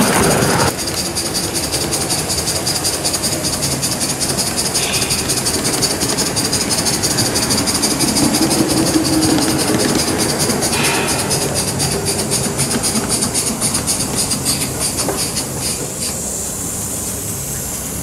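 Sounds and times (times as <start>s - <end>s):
steam hiss: 0.0s - 18.0s
steam locomotive chuffing: 0.0s - 18.0s
wheel squeal: 0.0s - 18.0s
wheels clicking over rails: 0.0s - 18.0s.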